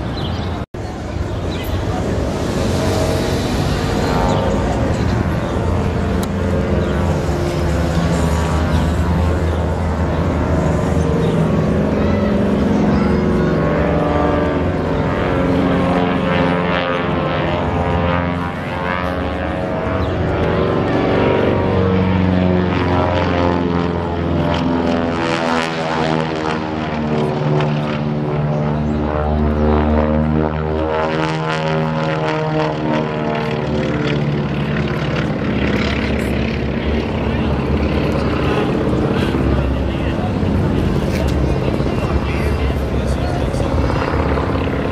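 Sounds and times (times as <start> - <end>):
radial engines and propellers droning: 0.0 - 44.9.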